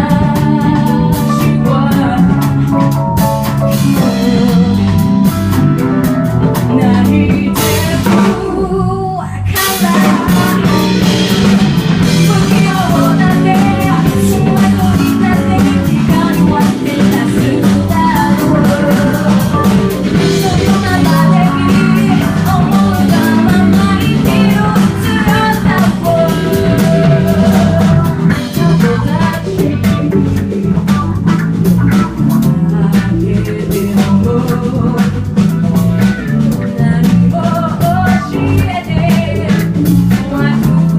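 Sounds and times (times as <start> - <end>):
person singing: 0.0 - 5.3, 6.5 - 40.9
live band playing: 0.0 - 40.9.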